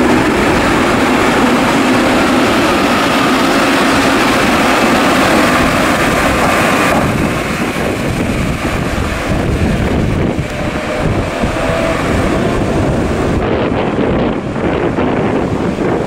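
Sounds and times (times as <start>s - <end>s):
high whine: 0.0s - 16.0s
train rumbling on rails: 0.0s - 16.0s
wind buffeting microphone: 0.0s - 16.0s.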